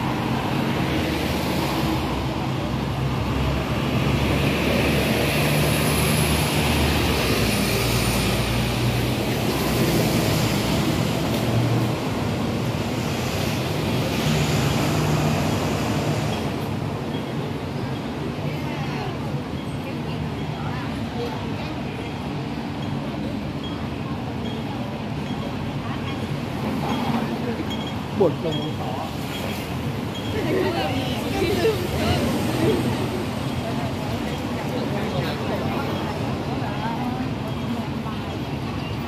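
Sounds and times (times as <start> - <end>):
vehicle engines passing: 0.0 - 39.0.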